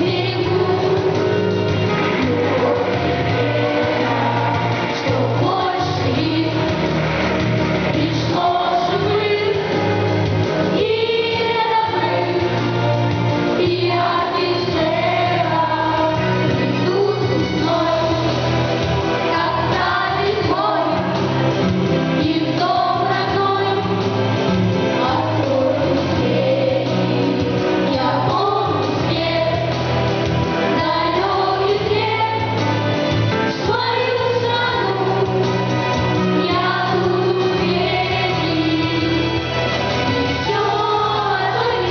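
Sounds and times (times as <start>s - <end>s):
choir singing: 0.0s - 32.9s, 33.5s - 41.9s
instrumental accompaniment: 0.0s - 41.9s.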